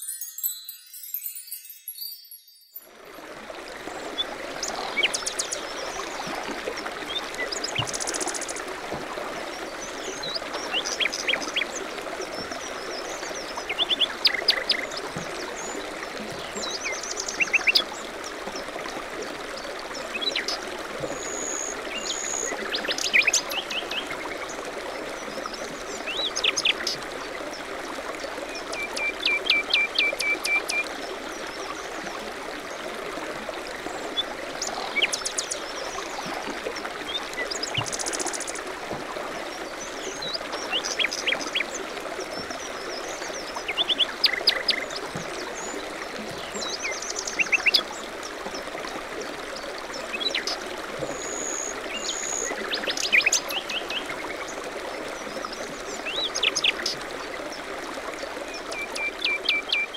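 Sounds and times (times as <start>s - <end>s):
creek trickling over rocks: 0.0s - 59.9s.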